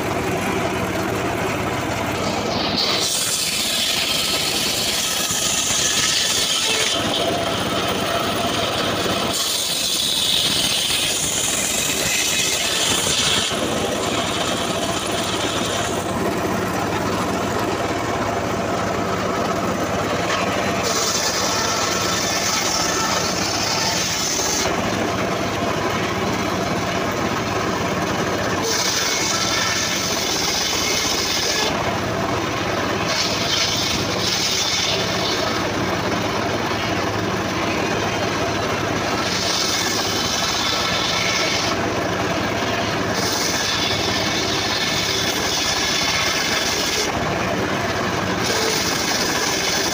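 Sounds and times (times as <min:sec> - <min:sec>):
circular saw running: 0:00.0 - 0:49.9
saw blade cutting wood: 0:00.0 - 0:49.9.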